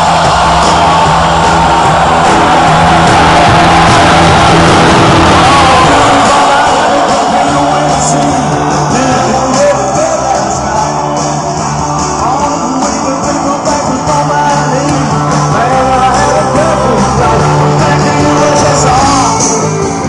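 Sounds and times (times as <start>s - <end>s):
loud music with singing: 0.0s - 20.0s.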